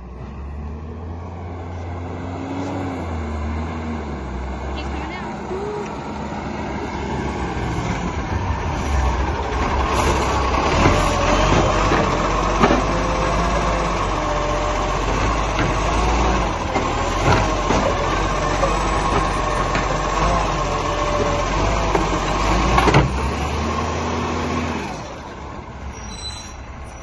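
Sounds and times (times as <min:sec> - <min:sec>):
garbage truck engine running: 0:03.1 - 0:26.0.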